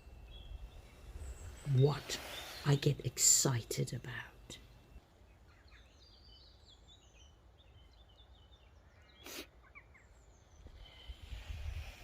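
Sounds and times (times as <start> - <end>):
small bird chirping and trilling: 0.0 - 11.4.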